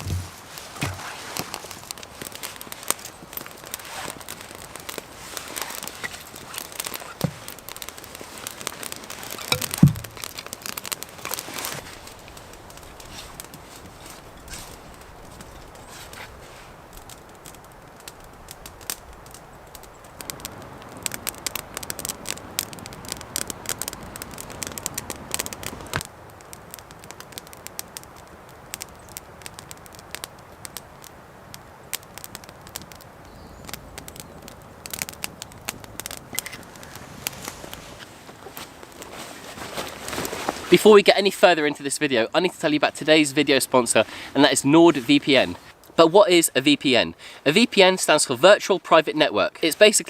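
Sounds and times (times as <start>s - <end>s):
dry crackling and snapping: 0.0s - 50.0s.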